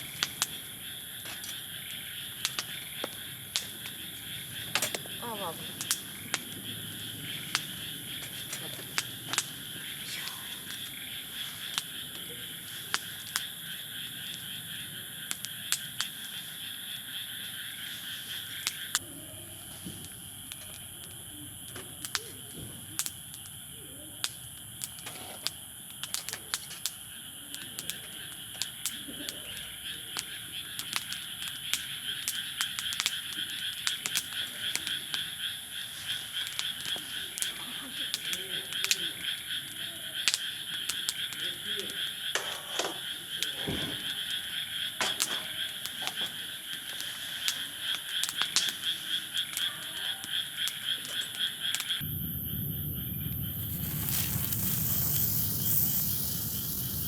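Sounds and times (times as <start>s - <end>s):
campfire crackling and popping: 0.0s - 17.8s, 18.4s - 19.1s, 20.0s - 42.4s, 43.0s - 57.0s.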